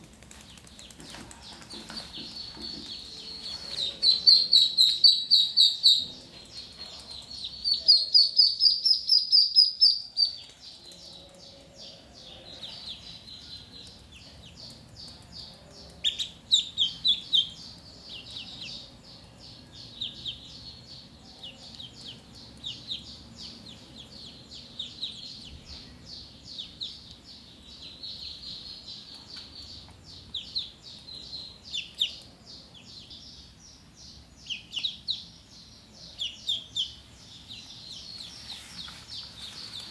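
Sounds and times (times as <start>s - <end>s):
ducklings peeping: 0.4s - 39.9s.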